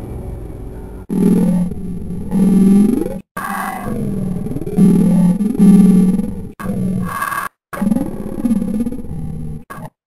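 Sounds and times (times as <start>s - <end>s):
distorted pitch-shifted voice growl: 1.1s - 10.0s.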